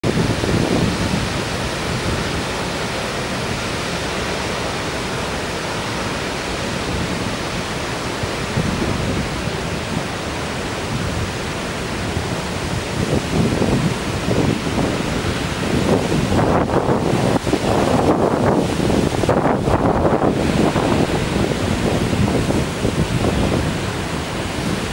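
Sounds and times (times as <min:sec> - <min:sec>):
waterfall rushing: 0:00.0 - 0:24.9
wind on microphone: 0:00.0 - 0:24.9.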